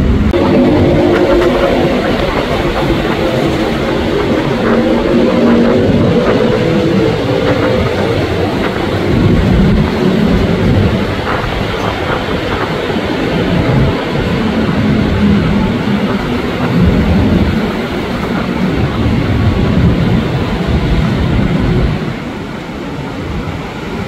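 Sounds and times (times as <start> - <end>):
faint train hum: 0.0 - 24.0
train wheels rumbling on rail: 0.0 - 24.0.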